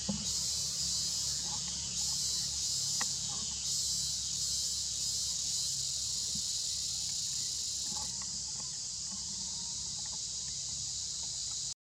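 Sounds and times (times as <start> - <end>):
insects shrill hiss: 0.0 - 11.8.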